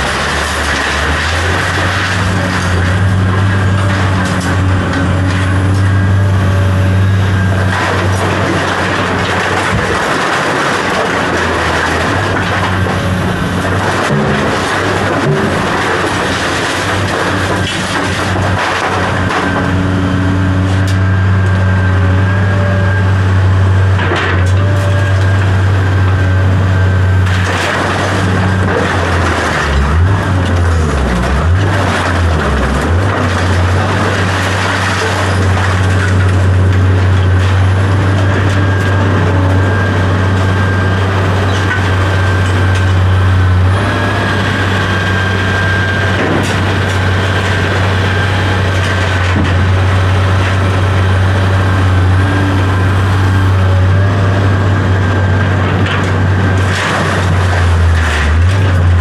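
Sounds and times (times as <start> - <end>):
large engine humming: 0.0 - 59.0.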